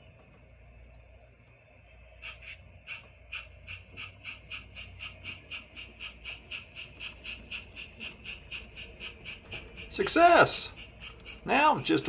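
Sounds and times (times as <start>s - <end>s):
model steam locomotive chuffing: 1.8s - 12.0s.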